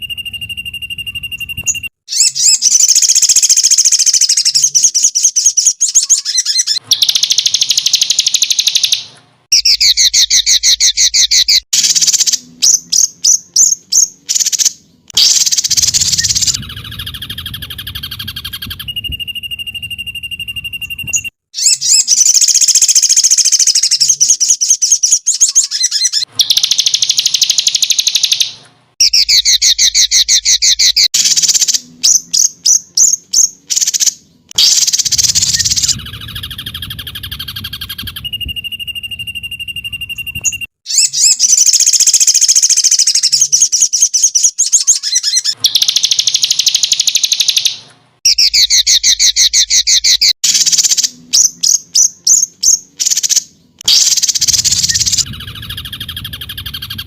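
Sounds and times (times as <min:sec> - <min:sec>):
songbird trills and chirps: 0:00.0 - 0:57.0.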